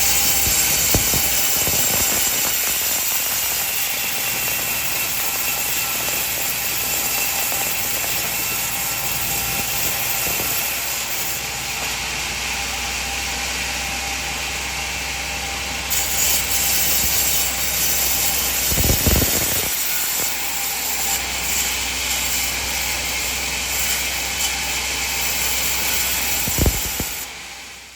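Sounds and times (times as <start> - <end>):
sawmill machine running: 0.0 - 27.9.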